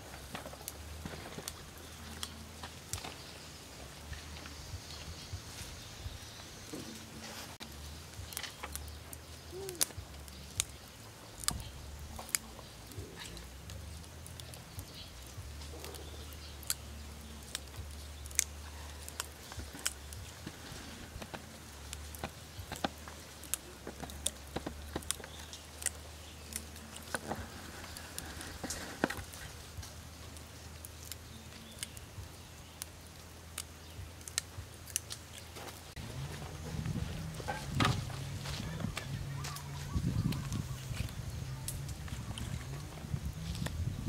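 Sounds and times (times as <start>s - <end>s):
leafy rustling: 0.0s - 44.0s
vegetable stems snapping: 6.7s - 43.9s.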